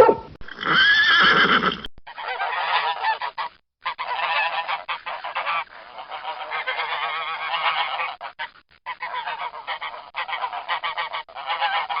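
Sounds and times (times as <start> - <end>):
flock of geese honking: 2.1 - 12.0.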